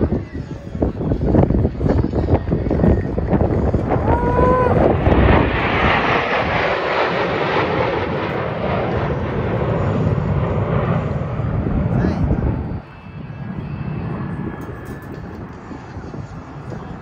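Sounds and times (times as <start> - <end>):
jet engines flying past: 0.0 - 17.0.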